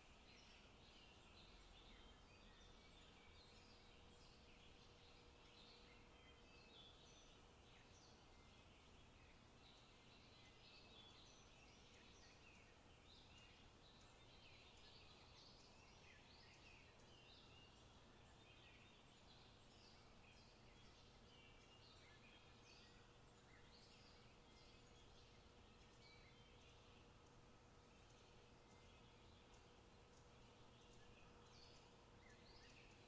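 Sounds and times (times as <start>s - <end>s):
faint songbirds chirping: 0.0s - 33.0s
low steady hiss: 0.0s - 33.0s.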